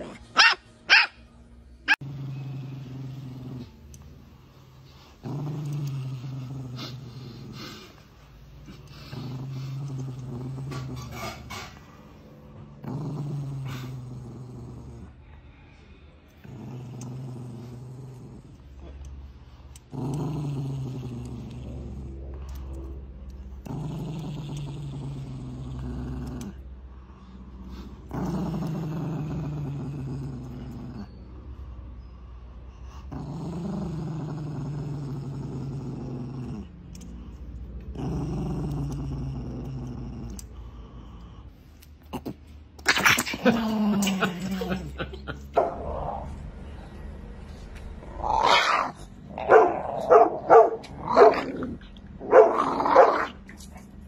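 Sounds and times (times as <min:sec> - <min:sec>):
small dog growling: 0:01.8 - 0:15.4, 0:16.3 - 0:31.7, 0:32.7 - 0:46.9, 0:48.0 - 0:54.0.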